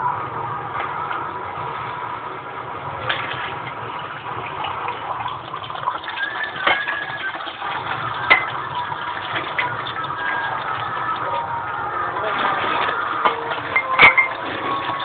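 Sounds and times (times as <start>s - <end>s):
running water rushing: 2.8s - 15.0s.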